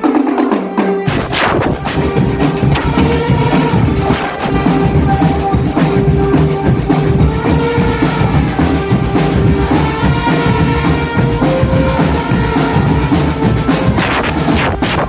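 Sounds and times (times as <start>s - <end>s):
snare and bass drums: 0.0s - 15.0s
melody of held notes: 1.1s - 14.5s.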